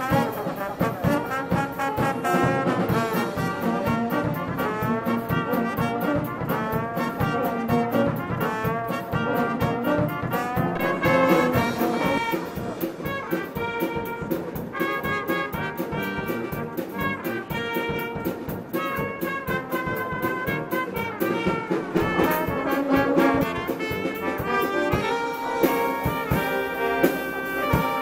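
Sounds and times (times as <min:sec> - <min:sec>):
brass band playing: 0:00.0 - 0:28.0
steady drum beat: 0:00.0 - 0:28.0.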